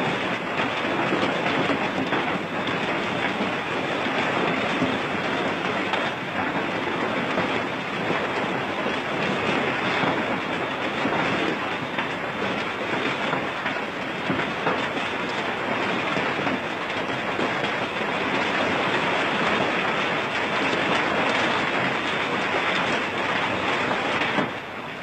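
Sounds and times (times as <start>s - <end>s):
hailstones pelting down: 0.0s - 25.0s.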